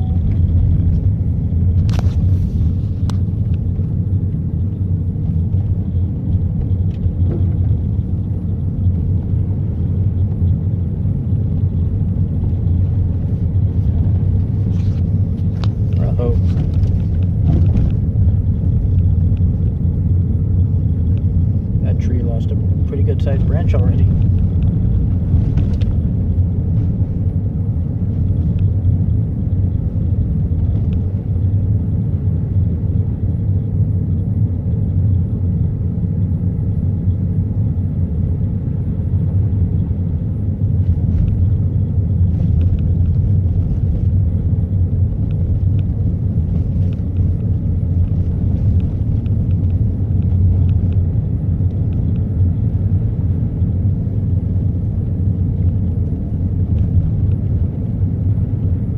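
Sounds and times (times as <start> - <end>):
car engine and tyres rumbling: 0.0 - 58.9.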